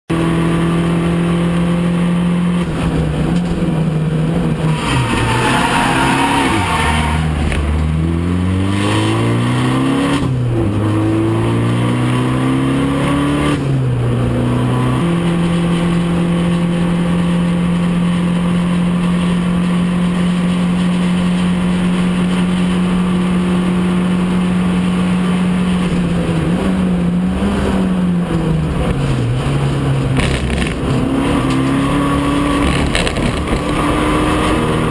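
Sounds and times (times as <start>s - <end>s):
race car engine at speed: 0.1s - 34.9s.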